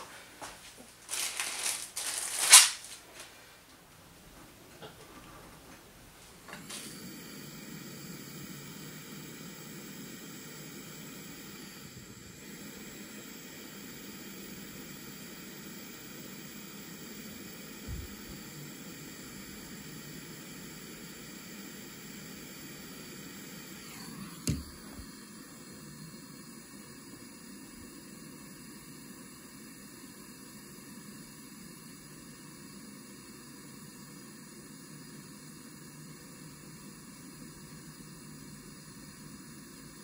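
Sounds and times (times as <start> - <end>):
steady low hiss: 0.0 - 40.0.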